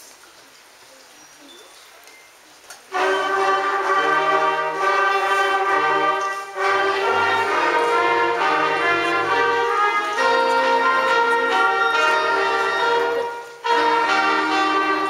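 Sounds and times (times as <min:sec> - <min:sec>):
brass band playing: 0:02.9 - 0:15.0.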